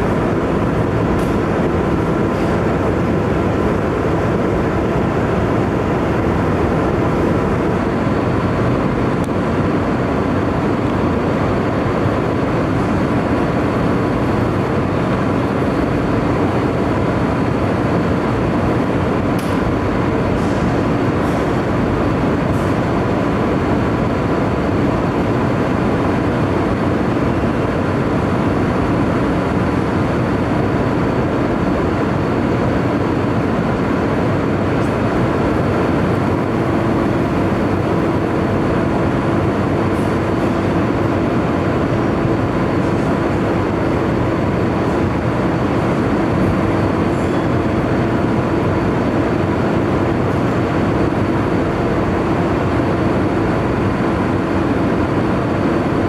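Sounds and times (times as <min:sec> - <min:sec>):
loud mechanical drone on ferry: 0:00.0 - 0:56.0.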